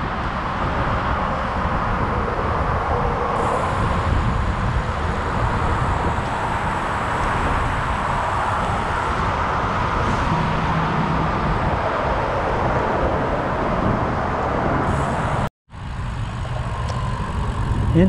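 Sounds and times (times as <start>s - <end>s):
highway traffic: 0.0s - 18.0s
wind rushing: 0.0s - 18.0s.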